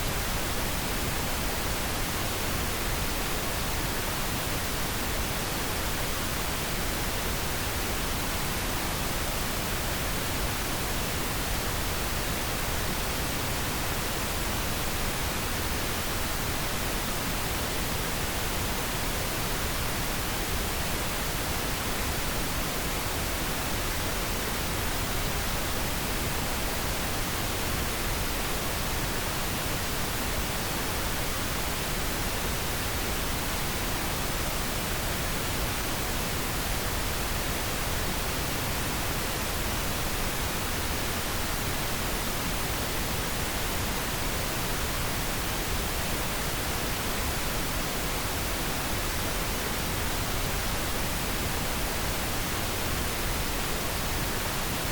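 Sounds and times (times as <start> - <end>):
steady pink noise hiss: 0.0 - 54.9.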